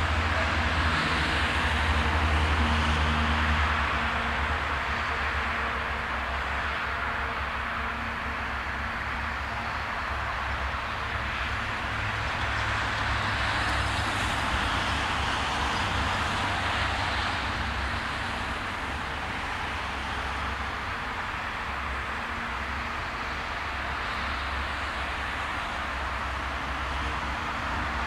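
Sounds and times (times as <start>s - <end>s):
freight locomotive engine drone: 0.0s - 28.0s.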